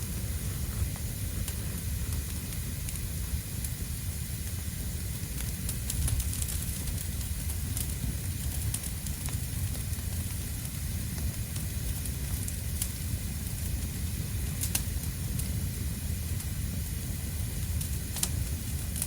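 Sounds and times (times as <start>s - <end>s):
fire crackles and pops: 0.0s - 19.0s
leaves and twigs burning: 0.0s - 19.0s.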